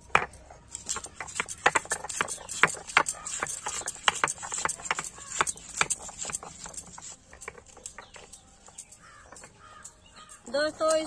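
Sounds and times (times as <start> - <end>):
stone roller crushing garlic on stone: 0.0 - 11.0.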